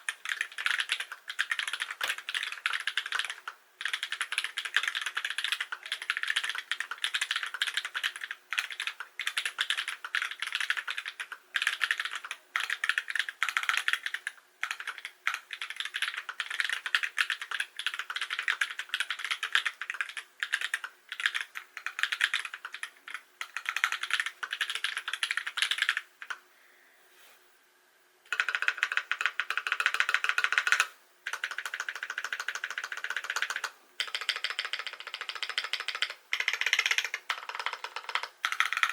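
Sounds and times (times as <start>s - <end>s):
mechanical keyboard typing: 0.0s - 26.4s, 28.3s - 38.9s.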